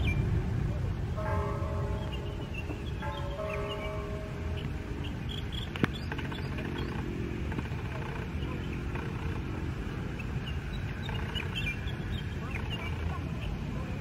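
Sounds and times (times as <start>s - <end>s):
jet engines low rumble: 0.0s - 14.0s.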